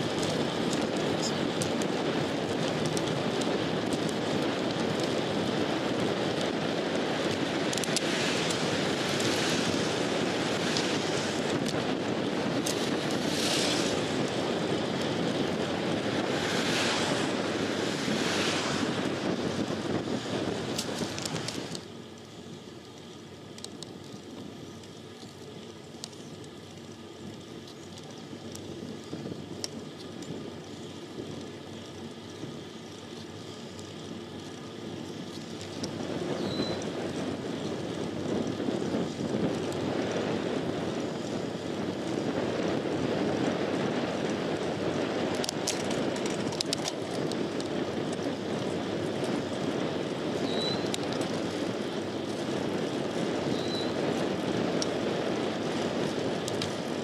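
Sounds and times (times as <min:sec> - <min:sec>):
bicycle tyres rumbling on road: 0:00.0 - 0:57.0
wind noise: 0:00.0 - 0:57.0.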